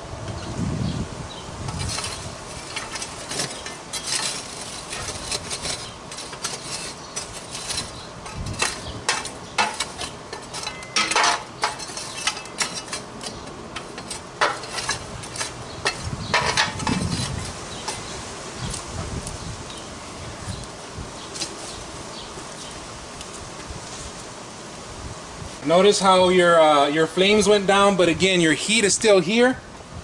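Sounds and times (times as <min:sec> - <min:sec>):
charcoal being raked in grill: 0:01.5 - 0:28.0.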